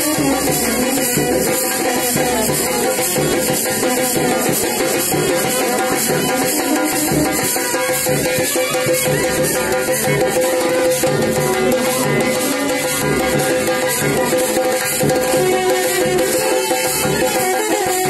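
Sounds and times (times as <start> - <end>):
drums: 0.0 - 18.0
rattling shaker percussion: 0.0 - 18.0.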